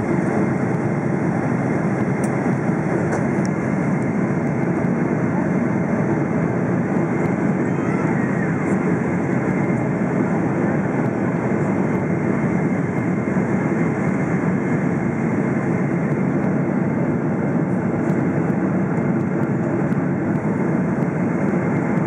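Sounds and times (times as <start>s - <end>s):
airplane cabin engine rush: 0.0s - 22.0s.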